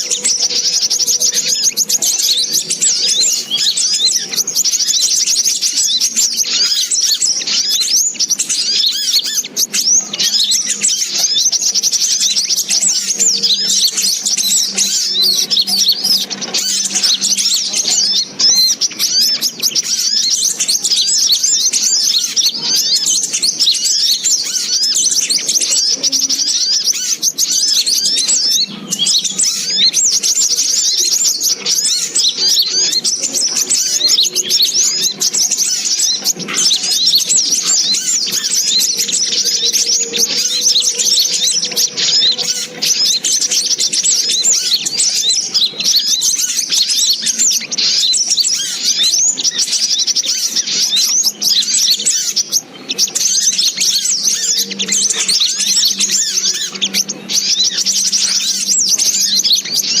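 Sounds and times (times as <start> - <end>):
bird calls rapid chirps: 0.0 - 60.0.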